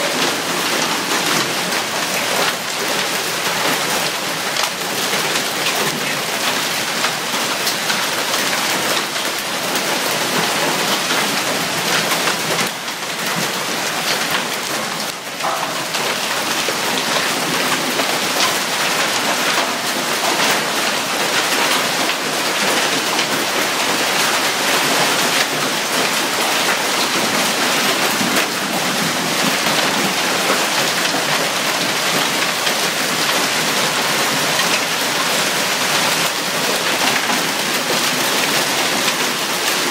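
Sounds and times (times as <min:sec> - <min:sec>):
hailstones ticking on pavement: 0:00.0 - 0:39.9.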